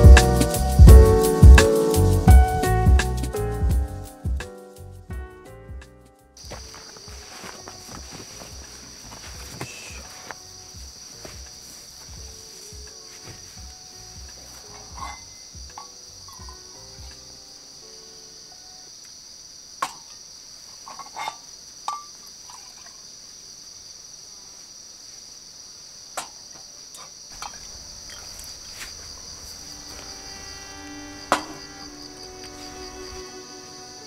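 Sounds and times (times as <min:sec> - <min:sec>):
insects chorus: 0:00.0 - 0:04.9, 0:06.4 - 0:34.0.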